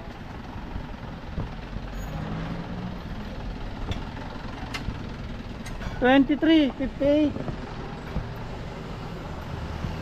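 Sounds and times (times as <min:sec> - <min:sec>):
vehicle engines passing: 0:00.0 - 0:10.0.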